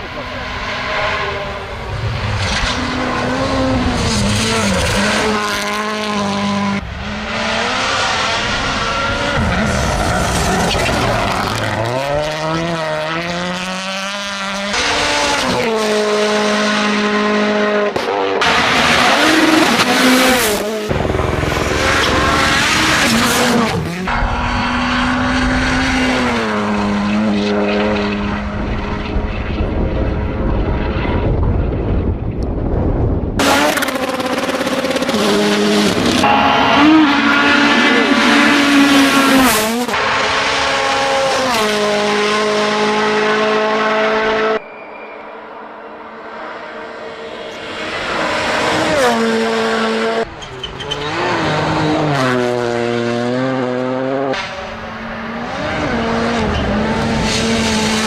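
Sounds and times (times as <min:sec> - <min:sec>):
car engines revving: 0:00.0 - 0:32.5, 0:33.3 - 0:58.0.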